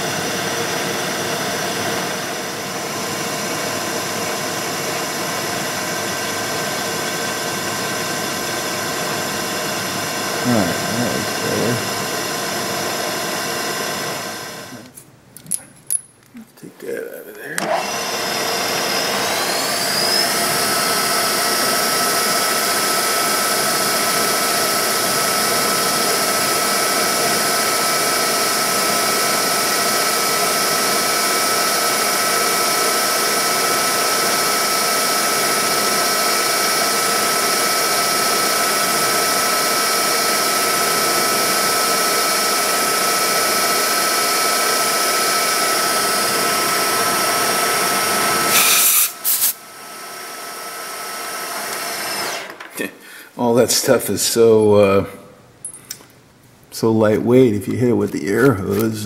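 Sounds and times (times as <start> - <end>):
milling machine spindle whine: 0.0 - 14.9, 17.4 - 52.6.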